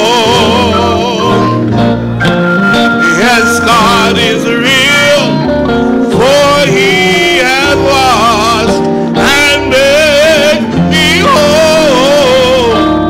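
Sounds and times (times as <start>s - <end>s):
electric guitar: 0.0s - 13.0s
keyboard: 0.0s - 13.0s
man singing gospel song: 0.0s - 13.0s.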